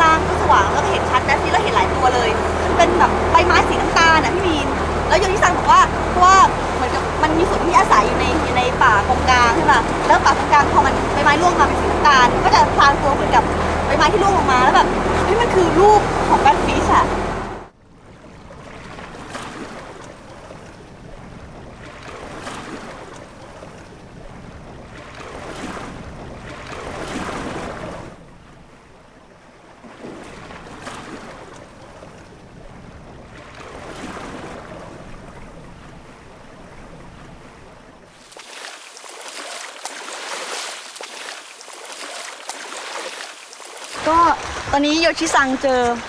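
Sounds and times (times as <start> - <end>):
sea water rushing: 0.0 - 46.0.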